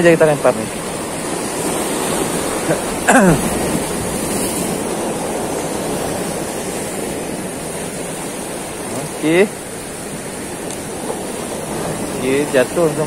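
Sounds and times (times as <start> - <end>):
waves breaking on rocks: 0.0 - 13.0.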